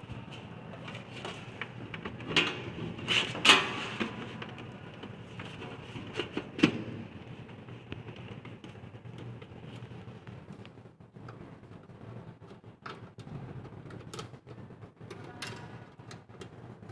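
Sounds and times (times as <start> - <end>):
low background hum: 0.0 - 16.9.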